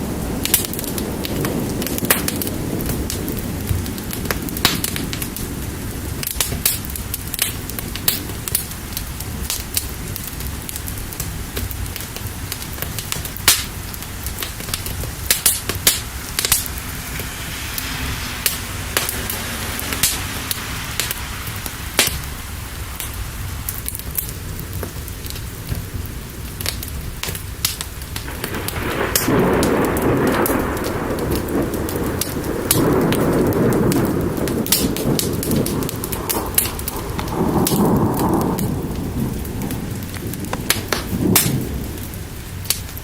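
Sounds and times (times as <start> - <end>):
fire crackling and popping: 0.0 - 43.0
steady rain: 0.0 - 43.0
thunder rumbling: 0.0 - 43.0.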